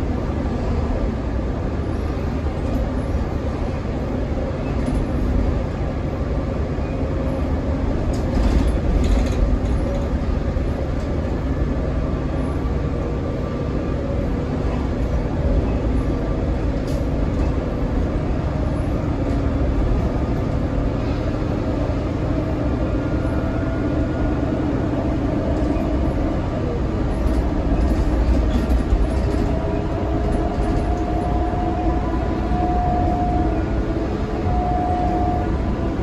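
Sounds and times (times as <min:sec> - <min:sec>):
bus engine rumble and whine: 0:00.0 - 0:36.0.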